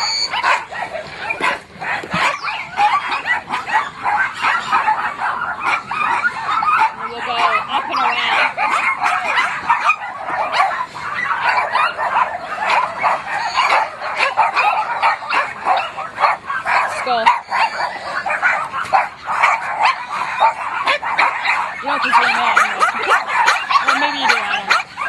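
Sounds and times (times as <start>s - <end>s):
many dogs barking and yipping: 0.0s - 25.0s.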